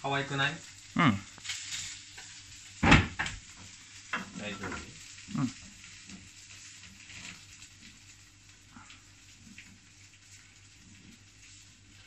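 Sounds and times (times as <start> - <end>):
faint sizzling in frying pan: 0.0 - 12.0.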